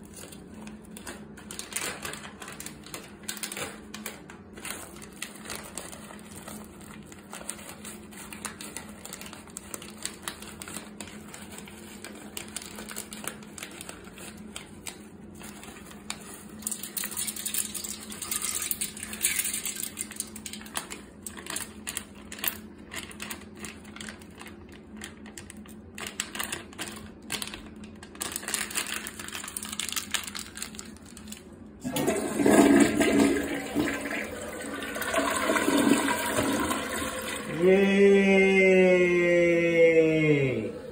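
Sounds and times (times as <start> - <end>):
plastic snack bag crinkling: 0.0 - 37.5.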